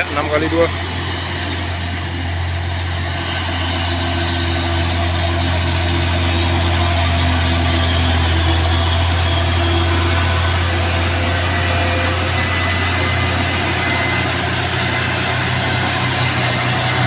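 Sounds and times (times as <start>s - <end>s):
diesel truck engine labouring uphill: 0.0s - 17.0s.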